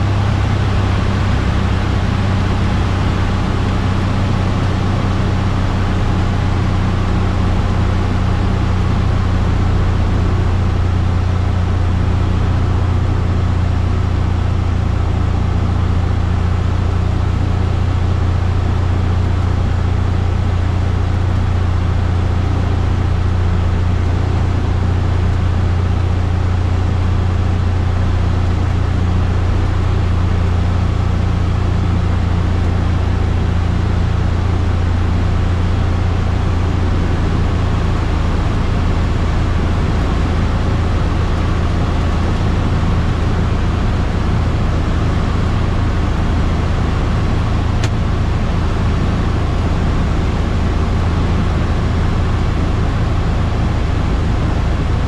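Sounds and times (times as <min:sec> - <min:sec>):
aircraft engine drone: 0:00.0 - 0:55.0.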